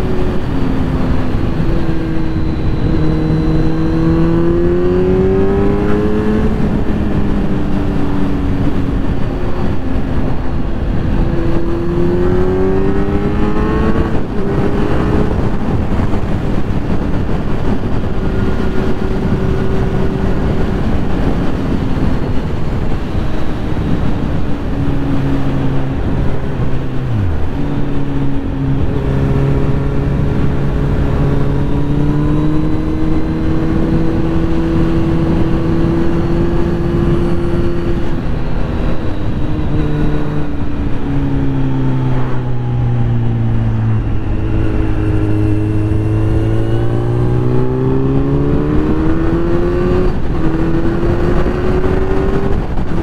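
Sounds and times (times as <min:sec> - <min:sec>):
motorcycle engine running: 0:00.0 - 0:53.0
wind rushing over microphone: 0:00.0 - 0:53.0.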